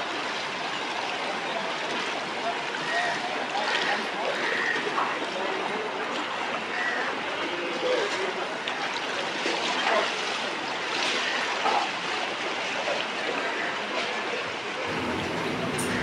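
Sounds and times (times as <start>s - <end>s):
people wading through water: 0.0s - 16.0s.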